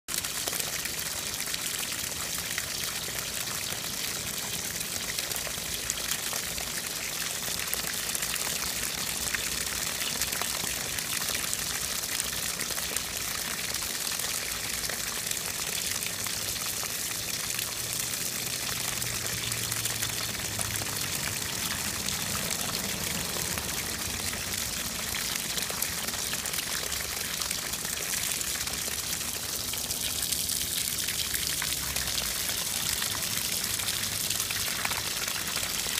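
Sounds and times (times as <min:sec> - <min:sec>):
water pouring and splashing: 0:00.1 - 0:35.9.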